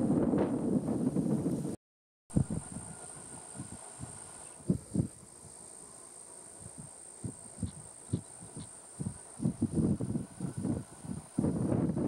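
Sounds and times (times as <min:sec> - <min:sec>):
wind gusting against microphone: 0:00.0 - 0:12.0.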